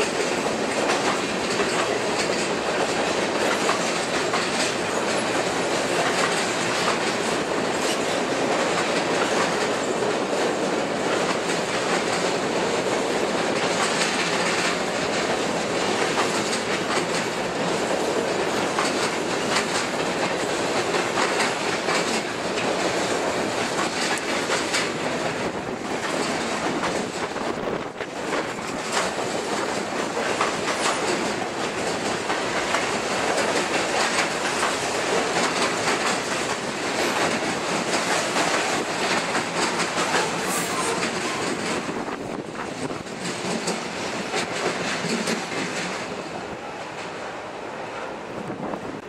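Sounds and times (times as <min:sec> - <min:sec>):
freight train wheels clattering: 0:00.0 - 0:49.0.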